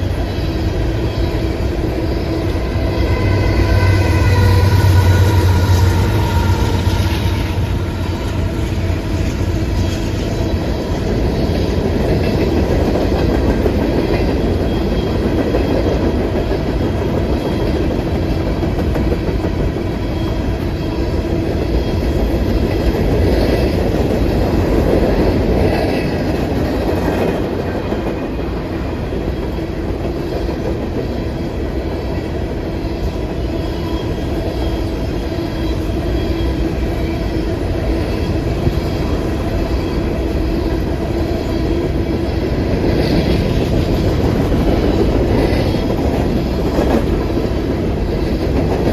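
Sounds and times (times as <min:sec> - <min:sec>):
train wheels rolling on rails: 0:00.0 - 0:48.9.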